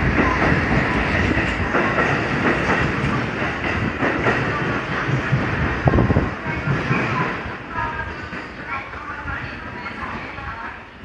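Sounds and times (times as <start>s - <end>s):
train cars rumbling past: 0.0s - 11.0s.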